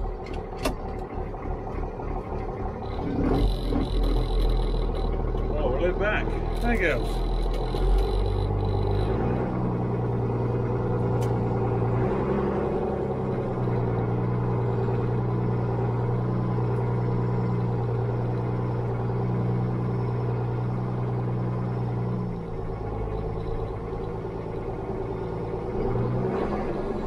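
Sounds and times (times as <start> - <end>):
tractor diesel engine pulling: 0.0 - 27.0.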